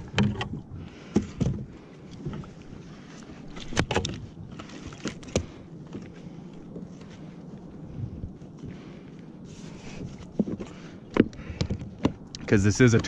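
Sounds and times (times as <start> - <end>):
wind and water hiss: 0.0 - 13.0.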